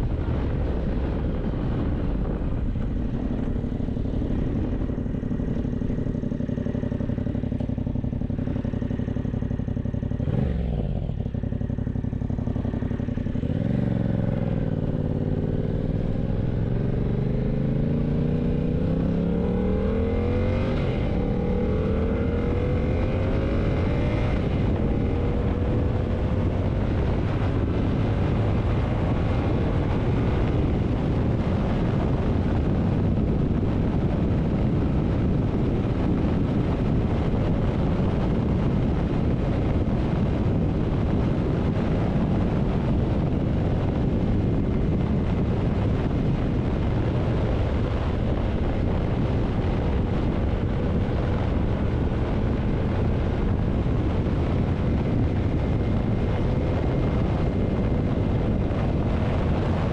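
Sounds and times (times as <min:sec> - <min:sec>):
motorcycle engine cruising: 0:00.0 - 0:59.9
wind buffeting on microphone: 0:00.0 - 0:59.9.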